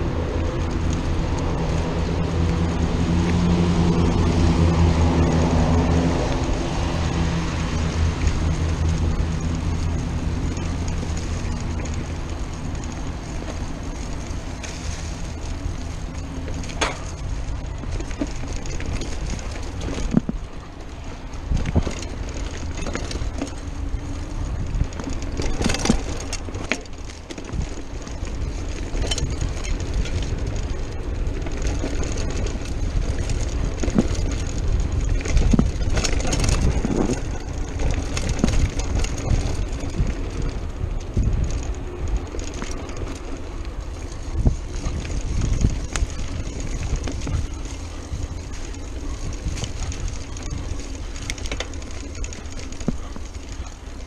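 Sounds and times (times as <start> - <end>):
bike clicking and rattling: 0.0 - 54.0
tyres running over dirt: 0.0 - 54.0
wind buffeting microphone: 0.0 - 54.0.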